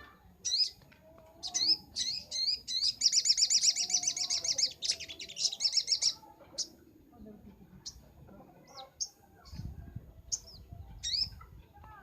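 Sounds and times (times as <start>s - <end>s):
bird chirping: 0.0s - 9.7s, 10.3s - 11.4s.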